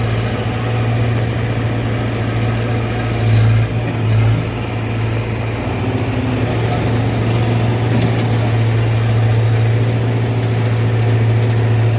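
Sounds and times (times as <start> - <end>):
large engine droning: 0.0 - 11.9.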